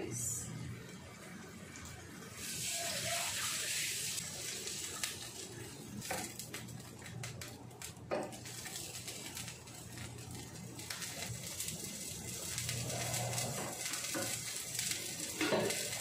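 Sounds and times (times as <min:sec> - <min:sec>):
water poured into hot pan: 0:01.7 - 0:07.0, 0:07.8 - 0:16.0.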